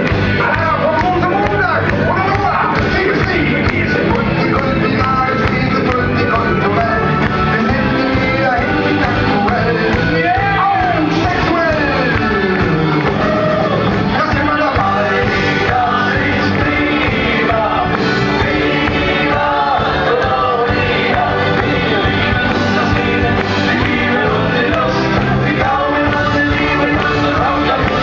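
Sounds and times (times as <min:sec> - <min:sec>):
live rock band playing: 0:00.0 - 0:28.0
people singing: 0:03.0 - 0:12.6, 0:14.1 - 0:28.0.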